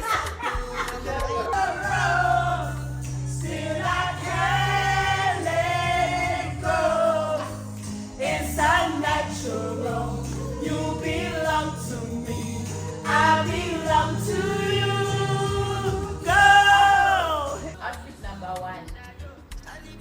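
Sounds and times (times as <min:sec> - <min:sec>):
choir-like singing: 0:00.4 - 0:18.0.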